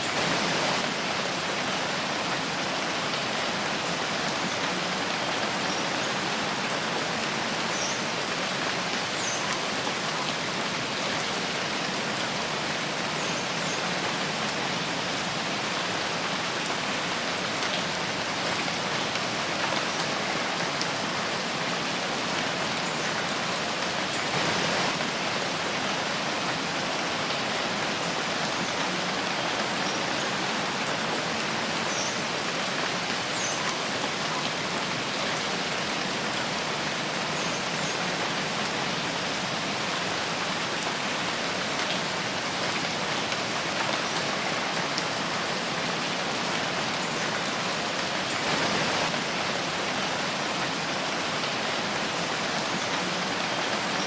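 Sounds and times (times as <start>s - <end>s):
rain pattering in forest: 0.0s - 54.0s.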